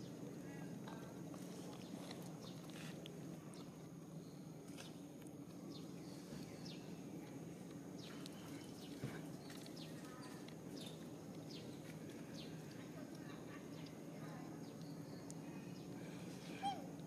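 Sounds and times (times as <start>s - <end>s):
steady low hum: 0.0s - 17.0s
birds chirping: 1.5s - 7.1s, 7.9s - 17.0s.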